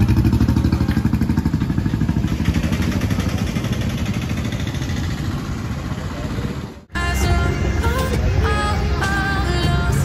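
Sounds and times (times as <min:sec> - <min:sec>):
auto-rickshaw engine running: 0:00.0 - 0:10.0.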